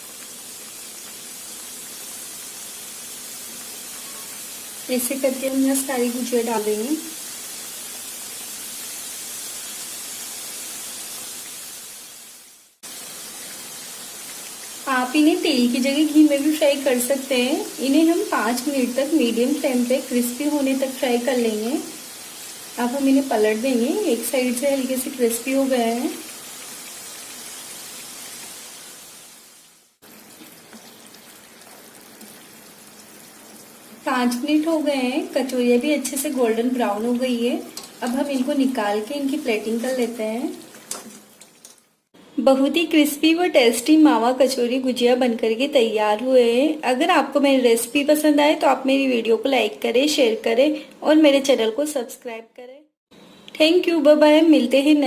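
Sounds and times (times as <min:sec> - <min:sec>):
pastries sizzling in hot oil: 0:00.0 - 0:51.9.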